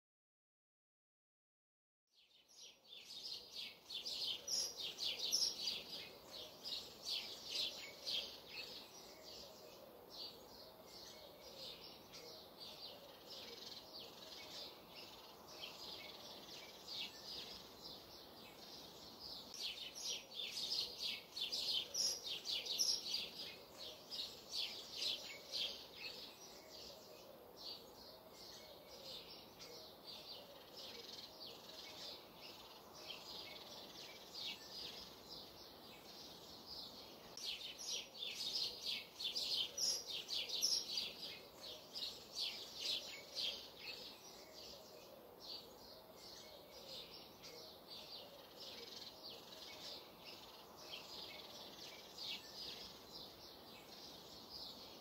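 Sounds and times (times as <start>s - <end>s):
small birds chirping: 2.1s - 55.0s.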